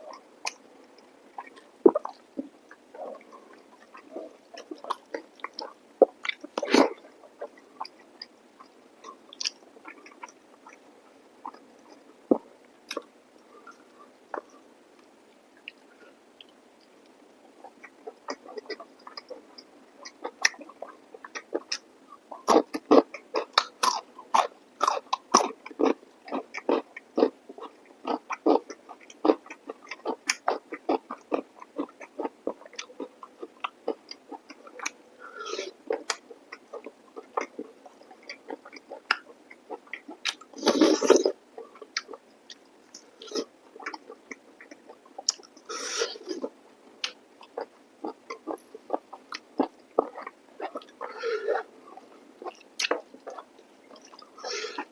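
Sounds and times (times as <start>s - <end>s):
wet chewing and lip smacking: 0.1s - 10.8s, 15.7s - 35.0s, 35.9s - 45.6s, 46.2s - 54.9s.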